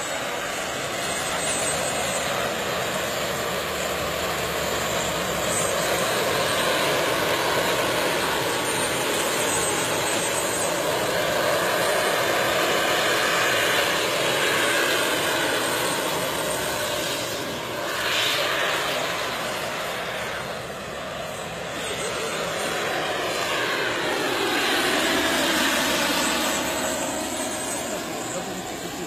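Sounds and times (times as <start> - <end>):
model helicopter engine and rotor: 0.0 - 29.0.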